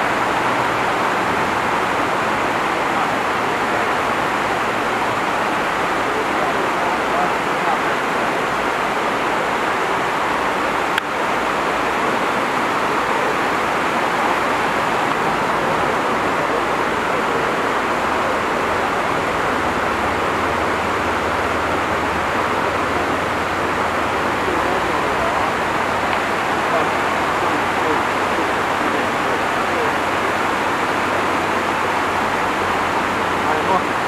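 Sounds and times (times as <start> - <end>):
river white water rushing: 0.0 - 34.0.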